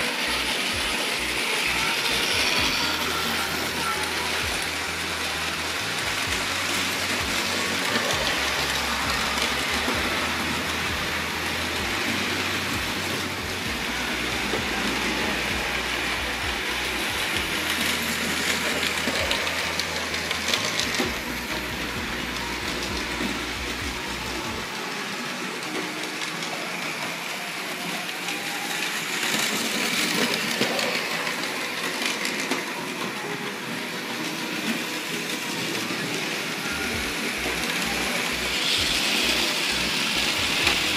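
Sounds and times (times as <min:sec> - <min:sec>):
model trains rattling on track: 0:00.0 - 0:40.9.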